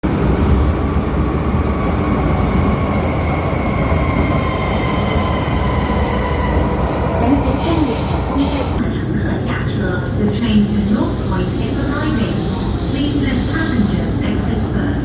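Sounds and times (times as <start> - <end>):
low rumble of train: 0.0 - 15.0.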